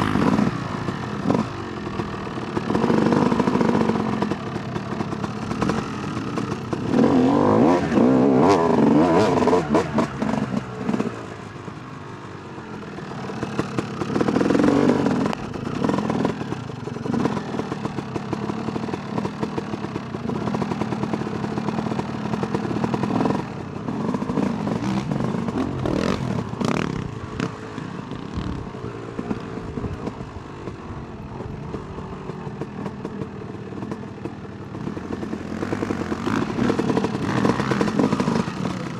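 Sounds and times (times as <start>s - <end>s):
knocks and clatter from bike: 0.0s - 11.2s, 12.8s - 38.9s
dirt bike engine revving: 0.0s - 11.5s, 12.9s - 29.9s, 34.7s - 38.9s.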